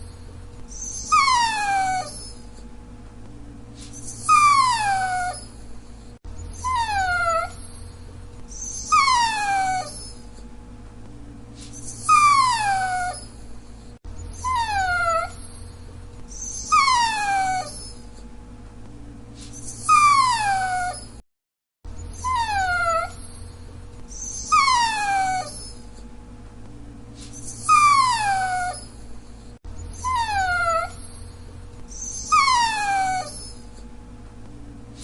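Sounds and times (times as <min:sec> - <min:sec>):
dog whining: 0:00.0 - 0:02.7, 0:03.8 - 0:10.5, 0:11.6 - 0:18.3, 0:19.4 - 0:21.2, 0:22.0 - 0:26.1, 0:27.2 - 0:33.9.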